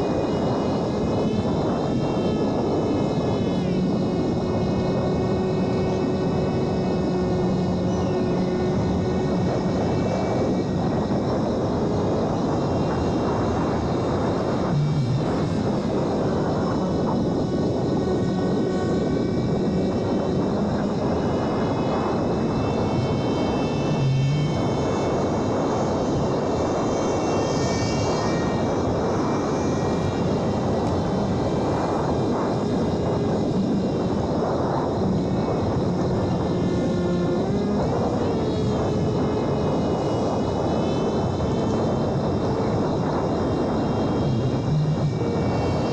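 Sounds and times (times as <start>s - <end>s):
electric model plane motor whine: 0.0s - 45.9s.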